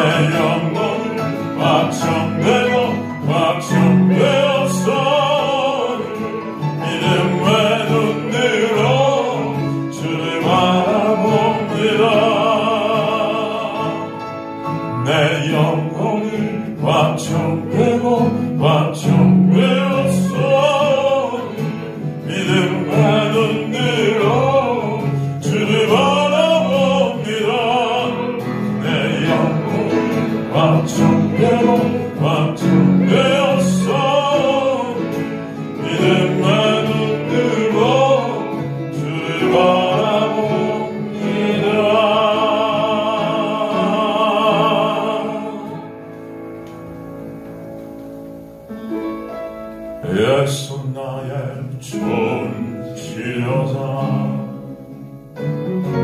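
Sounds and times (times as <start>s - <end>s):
man singing into a microphone: 0.0s - 45.8s, 50.0s - 54.7s
instrumental backing: 0.0s - 56.0s.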